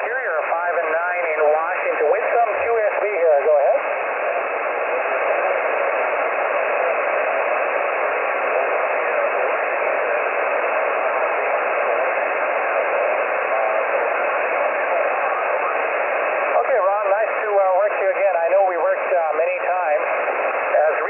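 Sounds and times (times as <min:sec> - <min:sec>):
radio band noise hiss: 0:00.0 - 0:21.0.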